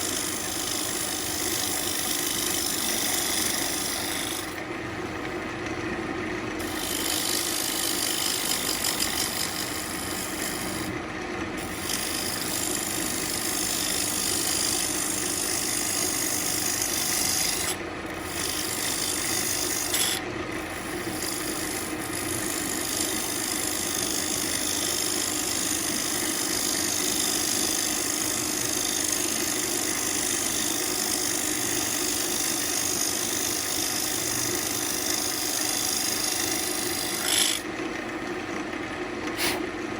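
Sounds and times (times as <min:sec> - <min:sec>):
lathe tool cutting wood: 0:00.0 - 0:38.0
lathe humming: 0:00.0 - 0:39.9.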